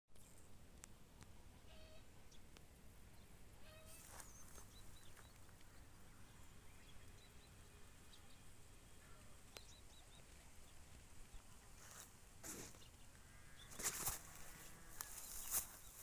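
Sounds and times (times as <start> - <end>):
faint bird chirps: 1.6 - 2.4, 3.1 - 16.0.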